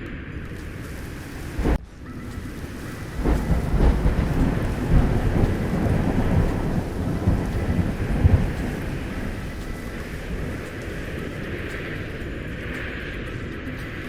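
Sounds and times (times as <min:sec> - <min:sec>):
deep thunder rumbling: 0:00.4 - 0:13.5
heavy rain hissing: 0:00.4 - 0:14.0.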